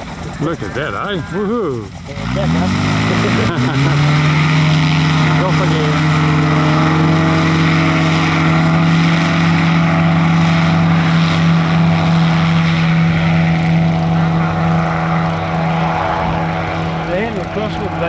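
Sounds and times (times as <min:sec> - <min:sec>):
model airplane engine and propeller: 0:00.0 - 0:18.0.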